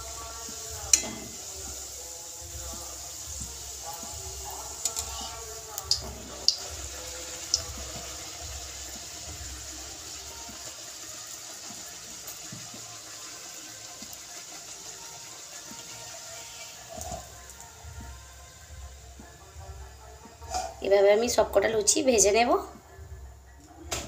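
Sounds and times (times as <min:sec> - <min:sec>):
bread sizzling in hot oil: 0:00.0 - 0:20.8.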